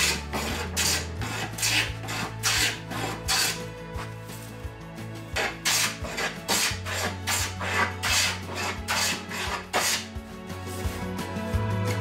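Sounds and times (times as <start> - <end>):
hand plane cutting strokes: 0.0 - 4.5, 5.3 - 11.1.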